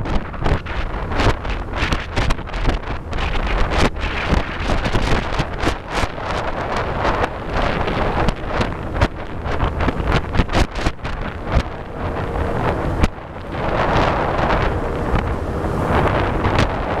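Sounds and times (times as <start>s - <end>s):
boat motor running: 0.0s - 17.0s
rushing water: 0.0s - 17.0s
wind buffeting microphone: 0.0s - 17.0s.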